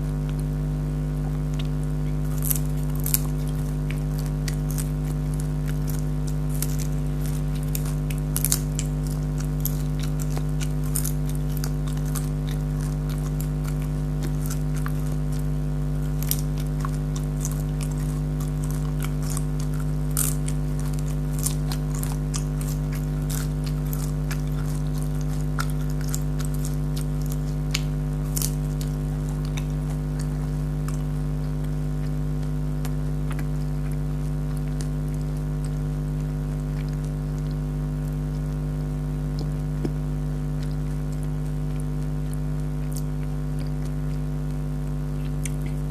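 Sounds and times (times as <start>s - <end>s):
crunchy chewing: 0.0s - 45.9s
steady low hum: 0.0s - 45.9s.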